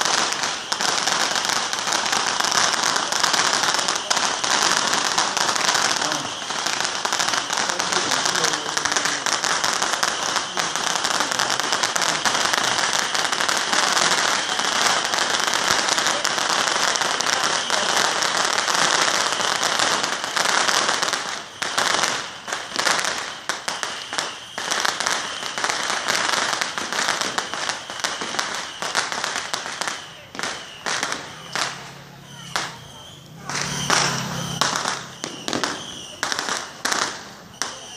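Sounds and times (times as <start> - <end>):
firecrackers crackling: 0.0 - 37.9.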